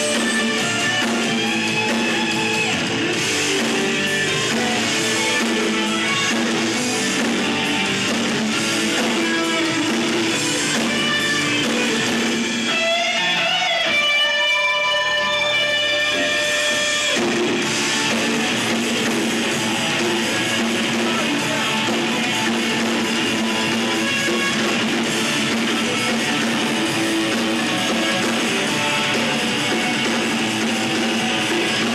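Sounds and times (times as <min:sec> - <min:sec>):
electric guitar: 0:00.0 - 0:31.9
rock band playing live: 0:00.0 - 0:31.9.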